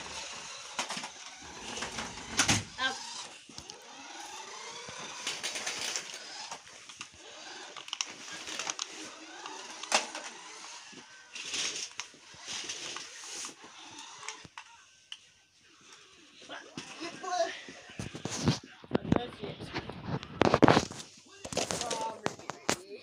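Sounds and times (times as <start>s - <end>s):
toy car motor whirring: 0.0s - 18.8s.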